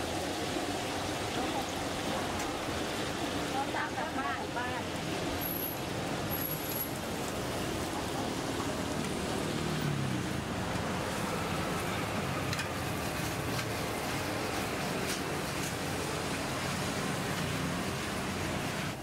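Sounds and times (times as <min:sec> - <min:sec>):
food sizzling on a griddle: 0:00.0 - 0:19.0.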